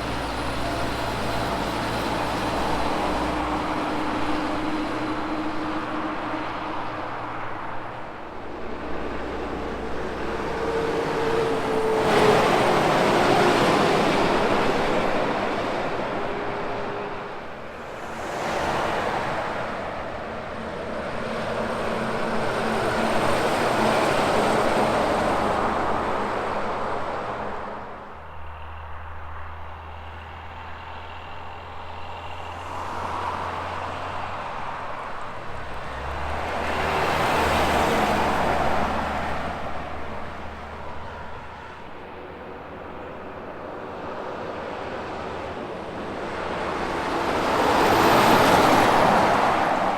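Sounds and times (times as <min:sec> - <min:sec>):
trucks passing on highway: 0:00.0 - 0:49.9.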